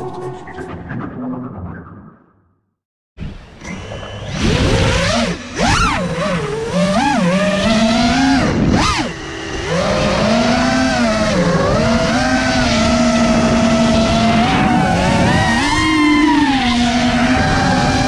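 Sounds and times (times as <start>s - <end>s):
drone motors whining: 3.2s - 18.0s.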